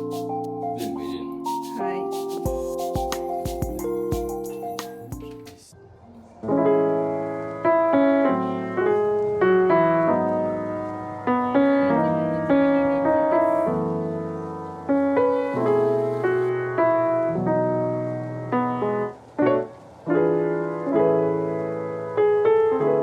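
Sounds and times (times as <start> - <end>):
gentle piano piece: 0.0 - 23.0.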